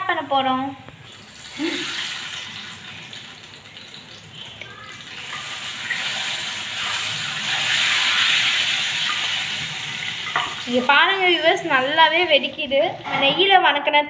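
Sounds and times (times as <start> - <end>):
hot ghee crackling and sizzling: 1.1 - 13.0.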